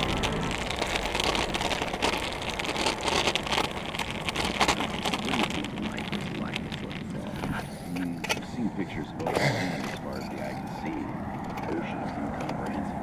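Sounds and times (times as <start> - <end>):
scooter wheels rolling on asphalt: 0.0 - 13.0.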